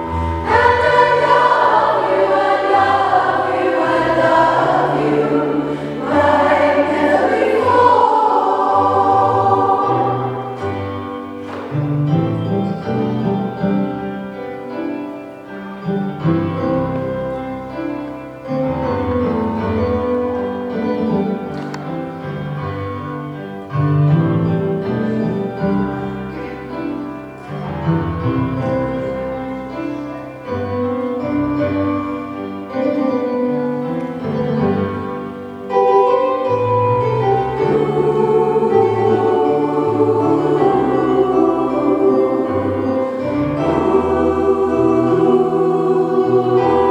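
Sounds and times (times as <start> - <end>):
song with keyboard accompaniment: 0.0 - 46.9.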